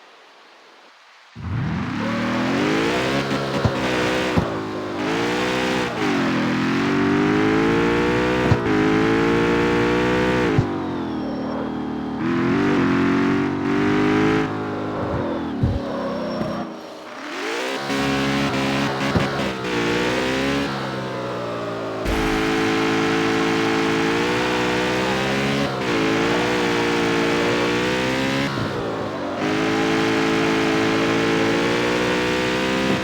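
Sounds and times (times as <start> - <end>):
car engine revving: 1.4 - 33.0.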